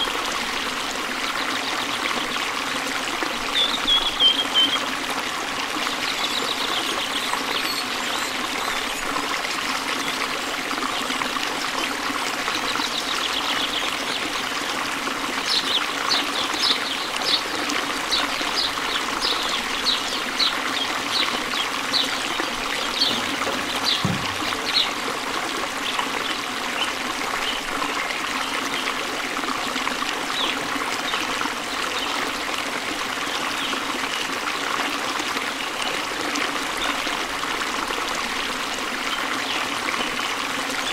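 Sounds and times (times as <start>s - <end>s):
trickle of running water: 0.0s - 40.9s.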